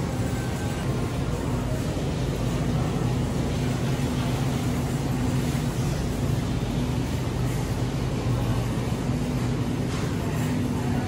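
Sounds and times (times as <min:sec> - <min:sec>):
low electrical hum: 0:00.0 - 0:11.0
ventilation air hiss: 0:00.0 - 0:11.0.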